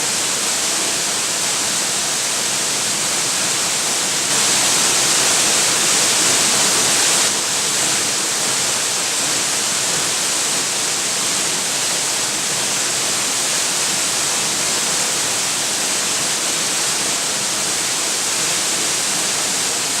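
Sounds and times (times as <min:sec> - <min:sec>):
waterfall pouring: 0:02.4 - 0:20.0.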